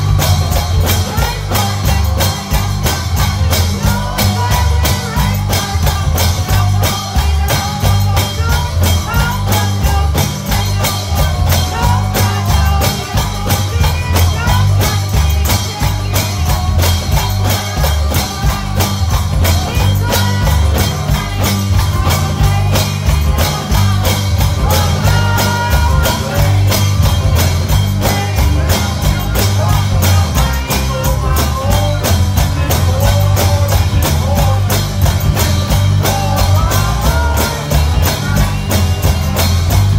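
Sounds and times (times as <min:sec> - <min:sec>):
live gospel band music: 0:00.0 - 0:39.9.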